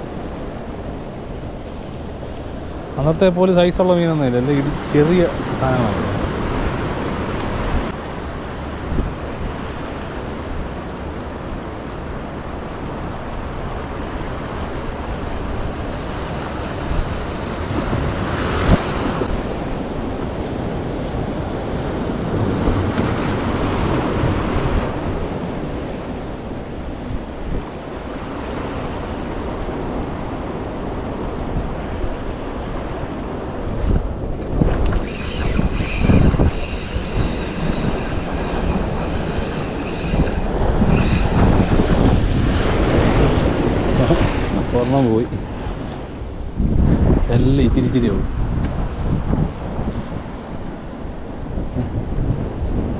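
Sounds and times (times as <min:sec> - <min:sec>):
surf washing over rocks: 0:00.0 - 0:52.9
wind buffeting microphone: 0:00.0 - 0:52.9.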